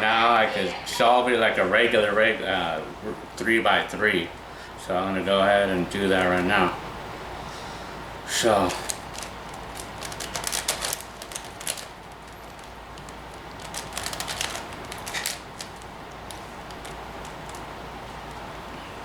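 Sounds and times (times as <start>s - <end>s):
quiet handling: 0.0s - 7.0s, 8.2s - 19.0s.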